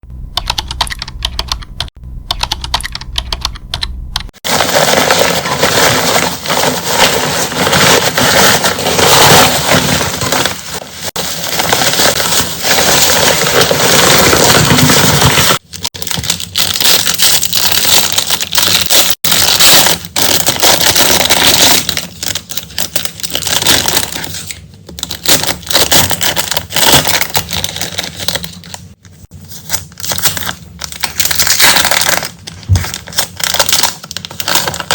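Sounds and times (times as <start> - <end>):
plastic and paper crinkling: 4.4 - 34.9.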